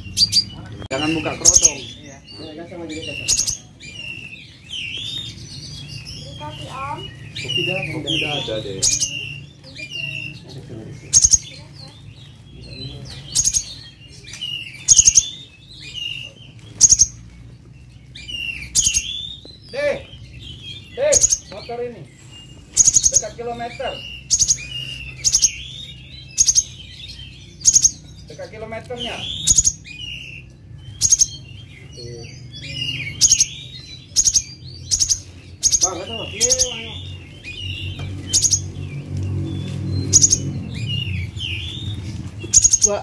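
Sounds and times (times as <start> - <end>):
bird chirping and whistling: 0.0 - 10.4, 11.0 - 43.0
bird trills: 0.0 - 10.4, 11.0 - 12.4, 13.0 - 43.0.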